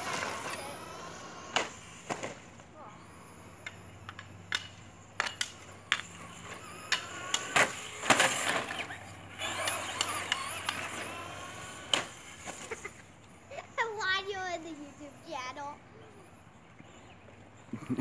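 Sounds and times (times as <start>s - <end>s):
toy truck motor whining: 0.0s - 17.1s.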